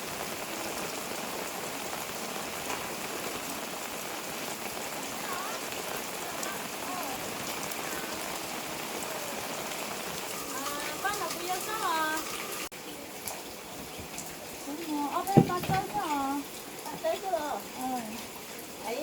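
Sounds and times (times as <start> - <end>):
rain pouring on surfaces: 0.0 - 19.0.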